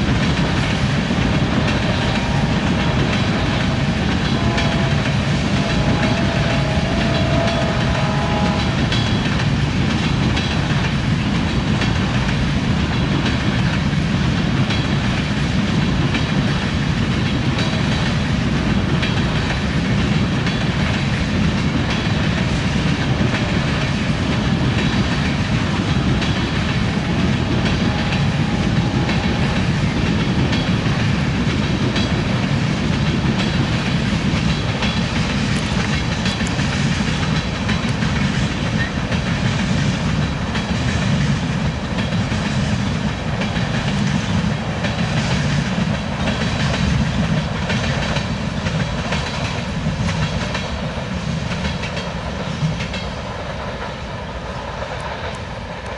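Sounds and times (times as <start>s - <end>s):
freight train rolling past: 0.0s - 55.9s.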